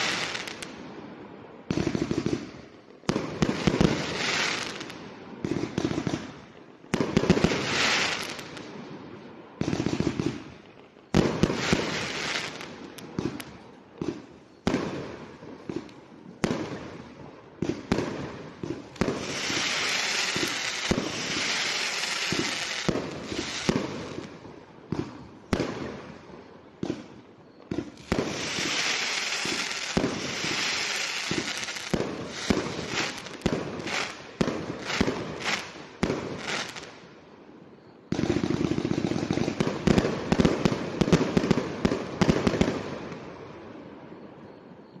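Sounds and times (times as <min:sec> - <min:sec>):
firework fountain hissing and crackling: 0:00.0 - 0:43.9.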